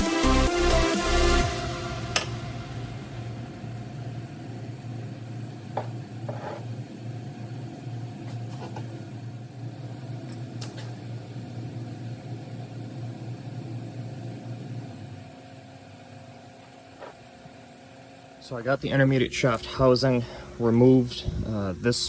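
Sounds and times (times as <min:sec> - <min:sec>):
low mechanical hum: 0:00.7 - 0:22.0.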